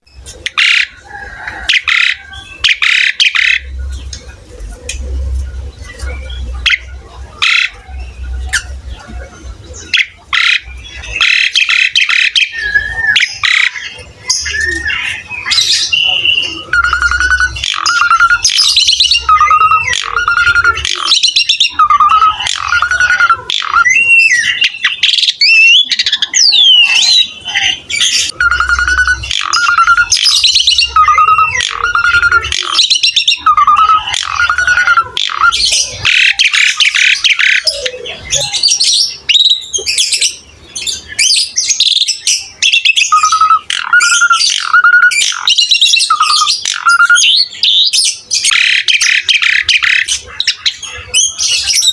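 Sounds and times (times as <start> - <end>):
starling singing: 0.0 - 51.9.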